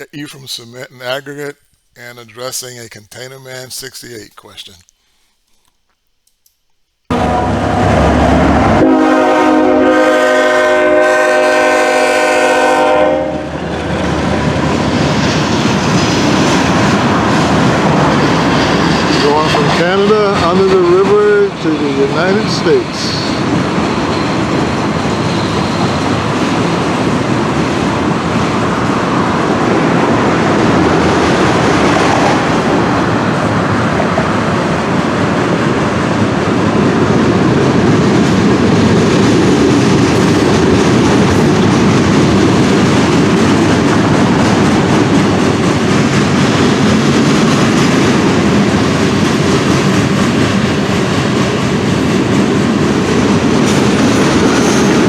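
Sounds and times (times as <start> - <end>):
freight train wheels rumbling on rail: 7.1 - 55.0.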